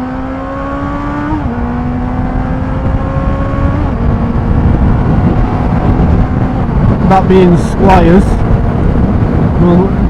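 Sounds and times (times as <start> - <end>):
motorcycle engine accelerating: 0.0 - 10.0
wind rushing on microphone: 0.0 - 10.0.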